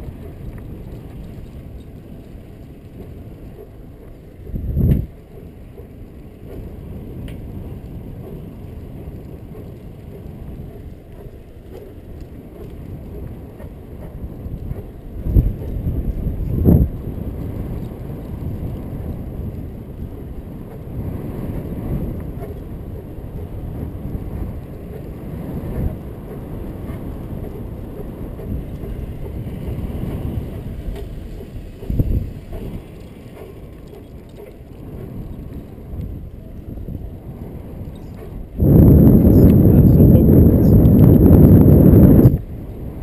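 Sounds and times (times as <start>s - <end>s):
bicycle tyres rolling on asphalt: 0.0s - 43.0s
wind rumbling on microphone: 0.0s - 43.0s.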